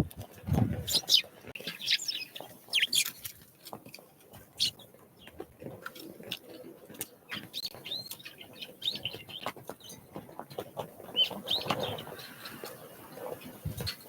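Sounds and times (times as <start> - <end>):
songbirds chirping: 0.7 - 5.4, 6.4 - 14.0.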